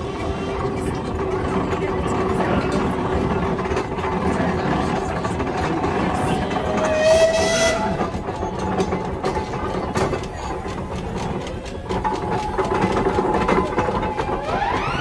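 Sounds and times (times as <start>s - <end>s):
steam engine clattering: 0.0s - 15.0s.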